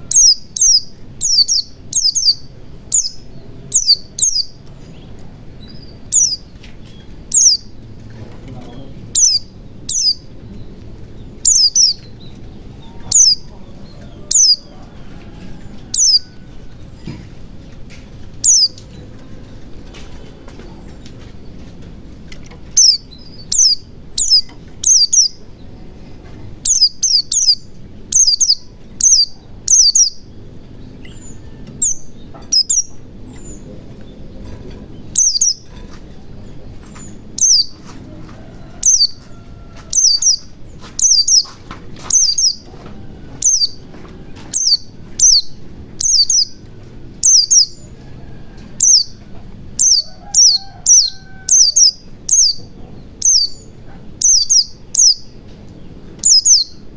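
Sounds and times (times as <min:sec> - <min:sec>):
bird chirping high: 0:00.0 - 0:14.9, 0:15.8 - 0:16.5, 0:18.2 - 0:19.2, 0:22.3 - 0:25.9, 0:26.6 - 0:38.0, 0:38.7 - 0:48.0, 0:48.8 - 0:56.9.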